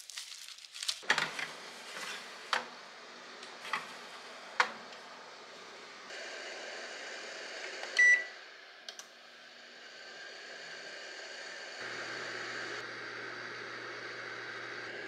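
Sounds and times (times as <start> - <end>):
oven fan whir and hum: 1.0 - 15.0.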